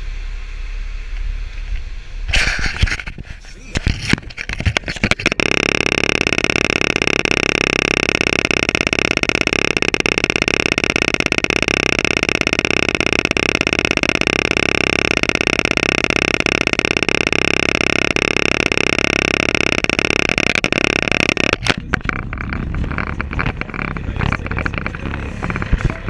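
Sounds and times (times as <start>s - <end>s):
hydraulic pump motor whining: 2.3s - 26.0s.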